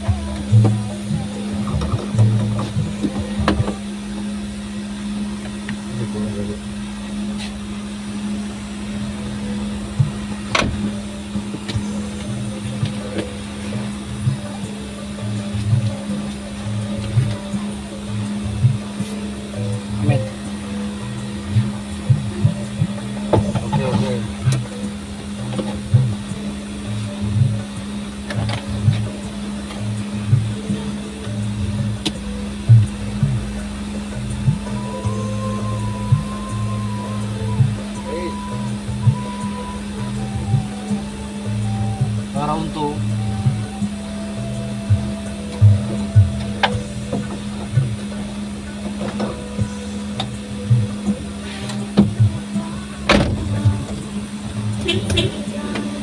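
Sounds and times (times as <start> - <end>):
music with bass beat: 0.0 - 56.0
pickup engine running: 0.0 - 56.0
steady low hum: 0.0 - 56.0.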